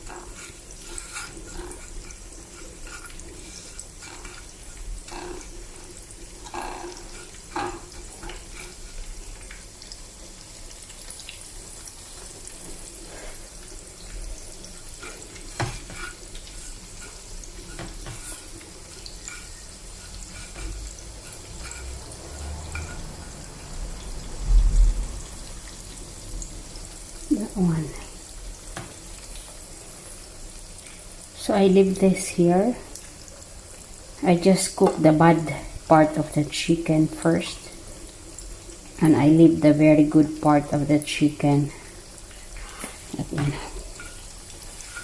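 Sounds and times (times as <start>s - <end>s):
chicken frying in hot oil: 0.0s - 45.0s.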